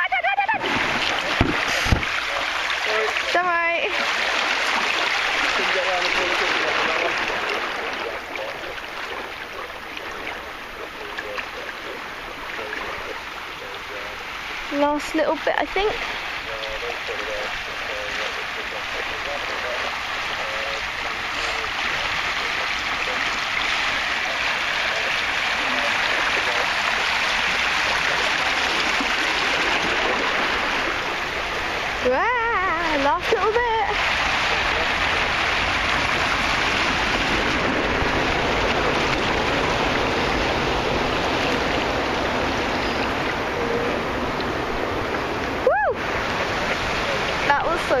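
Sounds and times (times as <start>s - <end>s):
fast-flowing water rushing: 0.0s - 48.0s.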